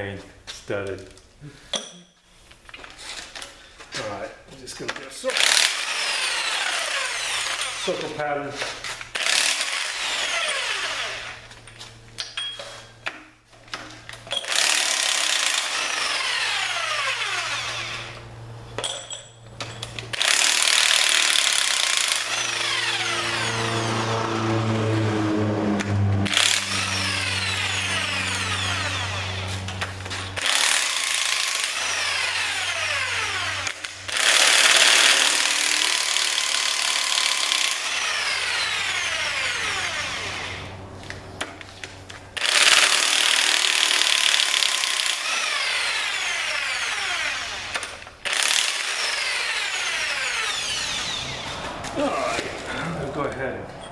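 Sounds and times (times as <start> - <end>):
power tool loosening bolts: 4.8 - 24.2, 26.3 - 51.4.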